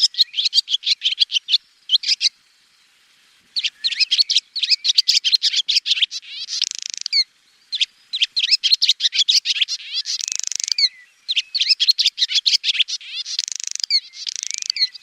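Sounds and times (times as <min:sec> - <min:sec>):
swallow twittering: 0:00.0 - 0:02.4, 0:03.6 - 0:15.0.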